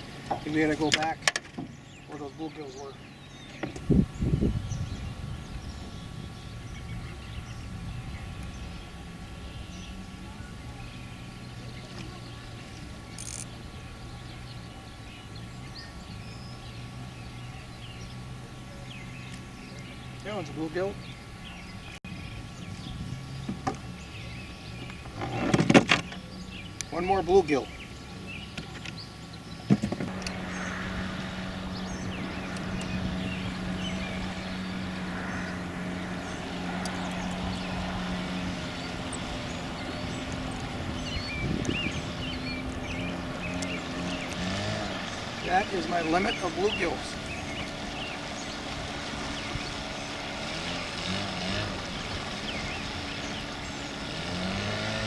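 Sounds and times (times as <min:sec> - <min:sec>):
birds chirping: 0:00.0 - 0:55.0
boat motor humming: 0:00.0 - 0:55.0.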